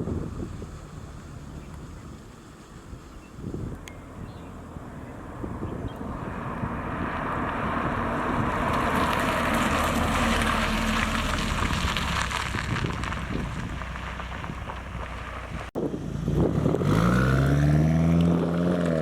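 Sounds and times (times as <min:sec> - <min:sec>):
car engine through exhaust: 0:00.0 - 0:19.0.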